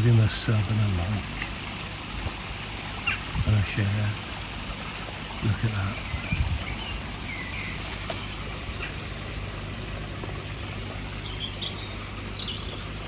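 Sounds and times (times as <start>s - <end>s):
water splashing into pond: 0.0s - 13.0s.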